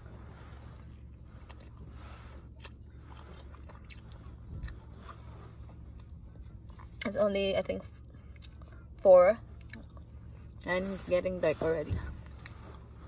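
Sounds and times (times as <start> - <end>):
person chewing pizza: 0.0 - 7.1, 8.1 - 13.0
steady low hum: 0.0 - 13.0.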